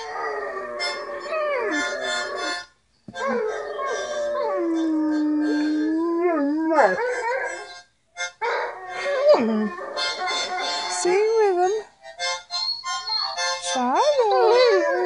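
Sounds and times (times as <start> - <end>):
music: 0.0 - 3.3, 3.9 - 6.1, 7.5 - 15.0
dog howling: 0.0 - 7.8, 8.4 - 11.0, 13.0 - 15.0.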